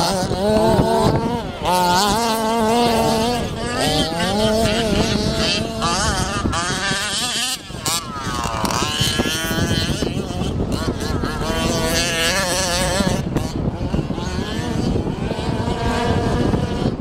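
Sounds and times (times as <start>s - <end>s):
rc car engines revving: 0.0s - 17.0s.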